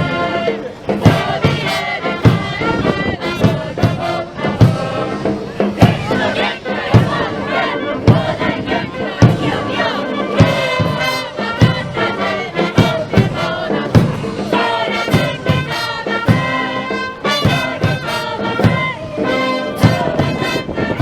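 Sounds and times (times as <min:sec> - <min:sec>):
voices chanting: 0:00.0 - 0:21.0
wind band playing: 0:00.0 - 0:21.0
drum strikes: 0:00.8 - 0:16.8, 0:17.4 - 0:19.2, 0:19.8 - 0:21.0.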